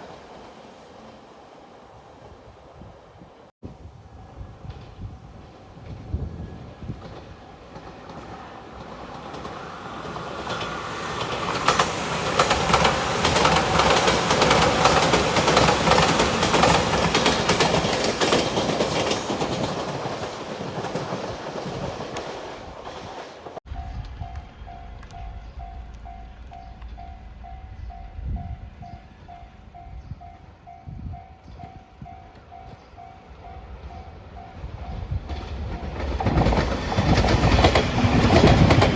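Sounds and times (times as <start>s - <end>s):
electric train passing: 0.0s - 38.9s.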